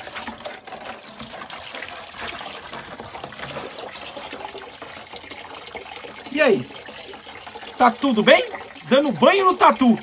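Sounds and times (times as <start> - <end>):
water dribbling: 0.0 - 10.0
water splashing in metal basin: 0.0 - 10.0.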